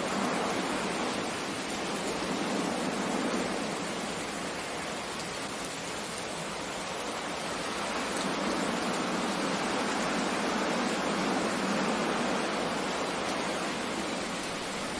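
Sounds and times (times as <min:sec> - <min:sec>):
rain over the sea: 0:00.0 - 0:14.9.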